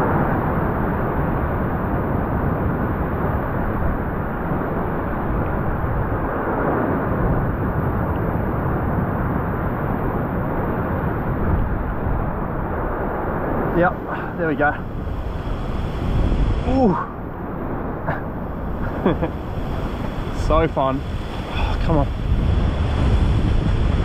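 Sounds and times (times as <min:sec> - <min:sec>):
ocean surf breaking: 0:00.0 - 0:24.0
wind on microphone: 0:00.0 - 0:24.0.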